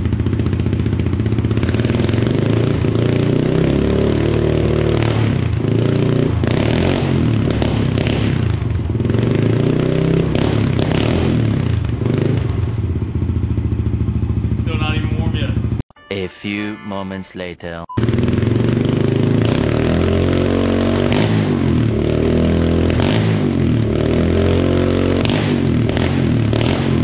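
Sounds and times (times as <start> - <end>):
motorcycle engine revving: 0.0 - 15.8, 18.0 - 27.0.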